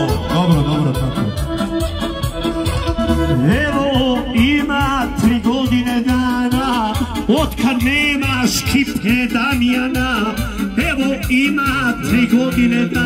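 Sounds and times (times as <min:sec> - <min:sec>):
folk band playing dance tune: 0:00.0 - 0:13.0.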